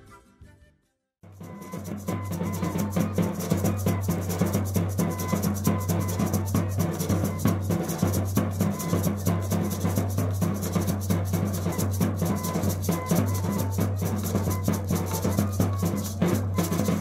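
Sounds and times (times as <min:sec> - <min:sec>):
high flute notes: 0:00.0 - 0:10.5, 0:11.1 - 0:17.0
drums beaten in fast rhythm: 0:01.2 - 0:17.0.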